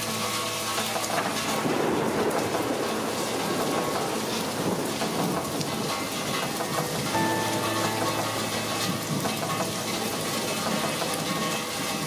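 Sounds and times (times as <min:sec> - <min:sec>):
heavy rain pouring: 0:00.0 - 0:12.0
thunder rumbling: 0:01.4 - 0:12.0.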